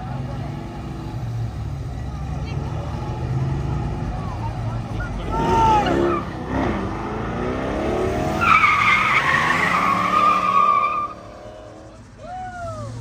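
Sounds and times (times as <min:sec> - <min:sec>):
car engine revving: 0:00.0 - 0:12.2
tires squealing in burnout: 0:02.5 - 0:13.0.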